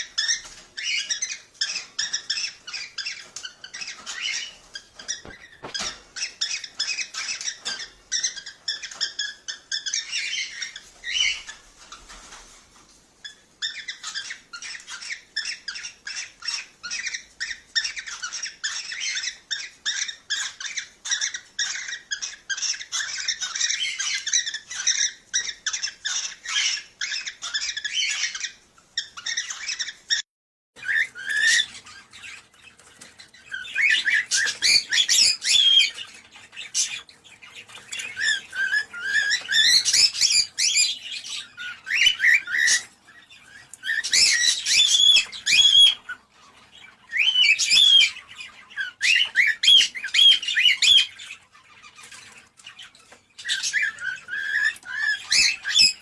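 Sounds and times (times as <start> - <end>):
cockatiels chirping and whistling: 0.0 - 12.4, 13.2 - 30.2, 30.8 - 56.0.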